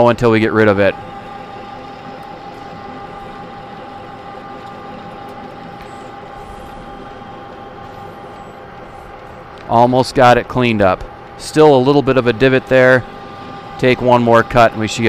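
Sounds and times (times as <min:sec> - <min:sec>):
lathe high whine: 0:00.0 - 0:15.0
lathe tool cutting metal: 0:00.0 - 0:15.0
metal lathe humming: 0:00.0 - 0:15.0.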